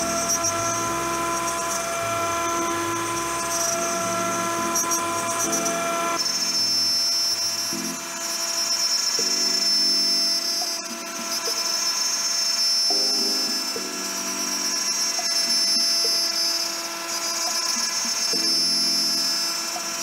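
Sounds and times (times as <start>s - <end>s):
machine motors humming: 0.0s - 20.0s
router cutter whining: 0.0s - 20.0s.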